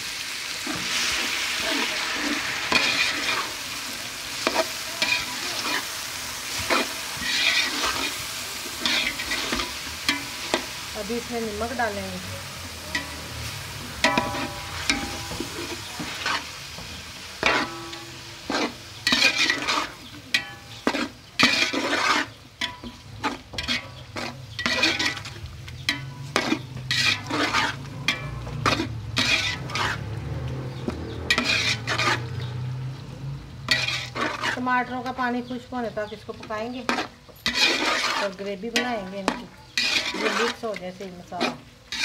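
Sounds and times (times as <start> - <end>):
food sizzling in oil: 0.0 - 42.0
metal spatula scraping pot: 0.7 - 12.0, 12.9 - 13.2, 14.0 - 42.0.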